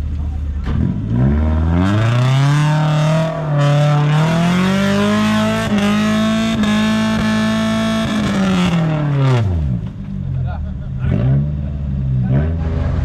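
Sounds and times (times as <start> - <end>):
off-road engine revving hard: 0.6 - 9.8, 11.0 - 13.0.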